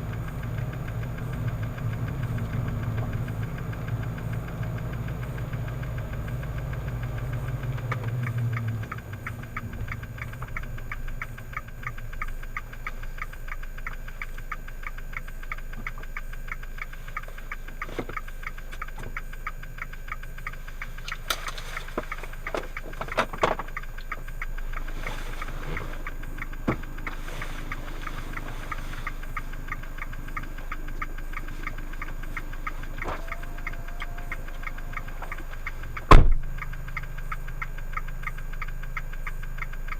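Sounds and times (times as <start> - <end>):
car engine idling with ticking: 0.0 - 39.9.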